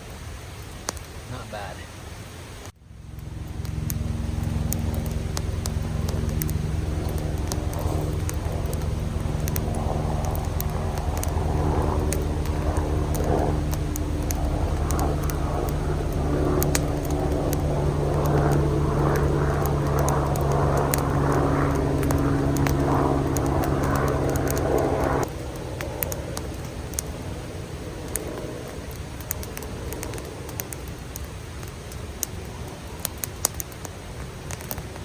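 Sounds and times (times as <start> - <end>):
rushing crackly water heating: 0.0 - 35.0
camp stove burner roaring: 2.5 - 35.0.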